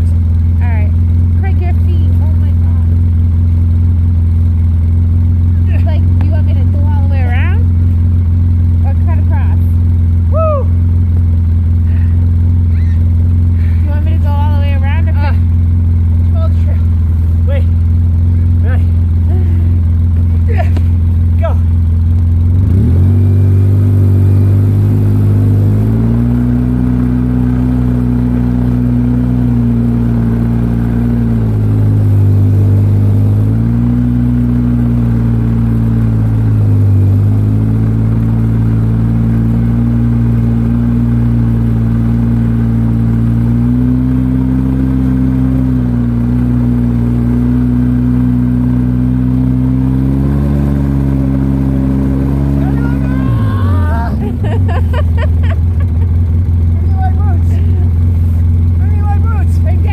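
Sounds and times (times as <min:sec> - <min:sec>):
engine running under load: 0:00.0 - 0:59.9.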